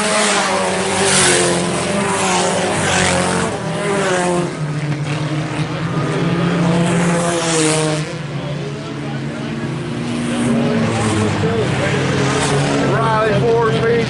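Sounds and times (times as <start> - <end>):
race car engines at full throttle: 0.0 - 14.0.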